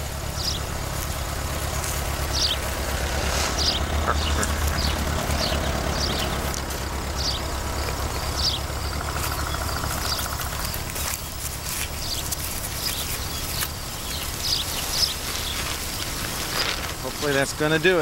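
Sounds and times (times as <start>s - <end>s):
steady low rumble: 0.0s - 17.9s.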